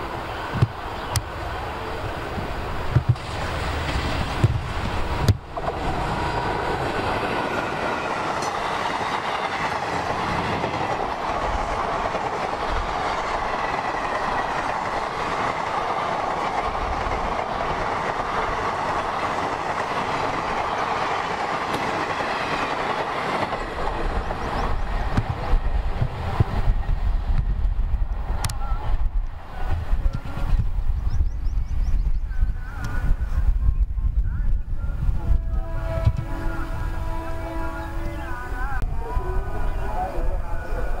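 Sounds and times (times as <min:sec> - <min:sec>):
train wheels rumbling on rail: 0:00.0 - 0:41.0
wind buffeting microphone: 0:00.0 - 0:41.0.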